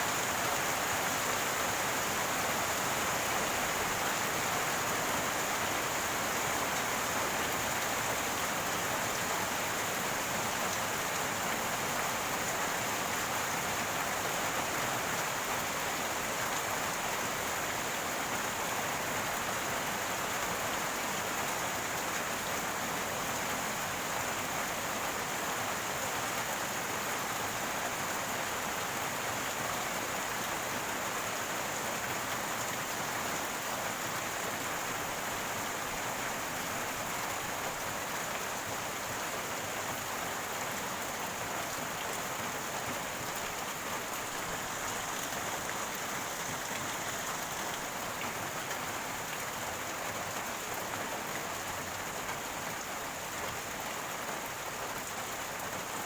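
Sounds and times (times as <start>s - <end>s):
rainwater running and gurgling: 0.0s - 56.0s.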